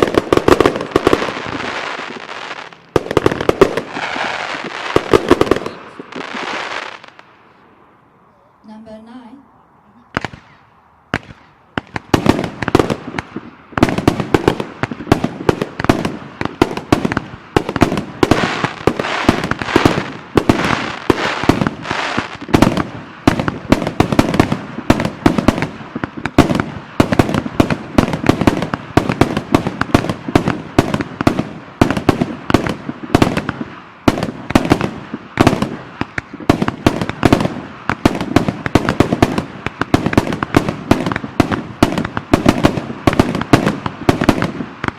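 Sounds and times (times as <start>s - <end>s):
fireworks barrage: 0.0s - 7.6s, 10.0s - 44.9s.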